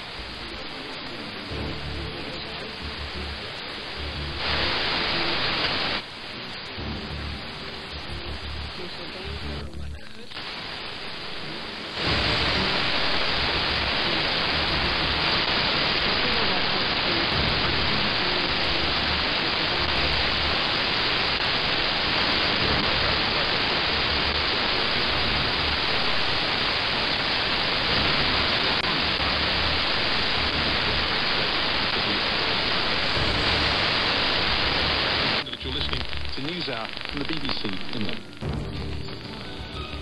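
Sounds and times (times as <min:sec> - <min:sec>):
loud steady rushing hiss: 0:00.0 - 0:40.0.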